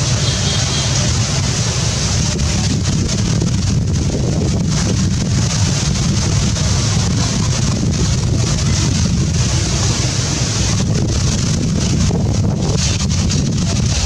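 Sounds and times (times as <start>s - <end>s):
wind buffeting microphone: 1.9s - 14.0s.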